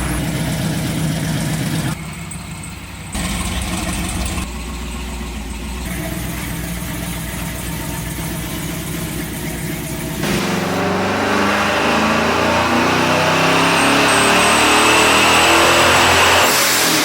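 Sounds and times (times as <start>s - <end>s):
pickup truck engine idling: 0.0s - 15.6s.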